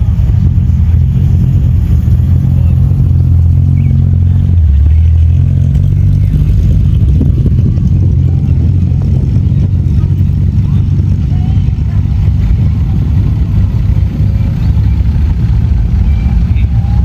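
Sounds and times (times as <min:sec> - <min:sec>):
car engine and exhaust rumbling: 0:00.0 - 0:17.0.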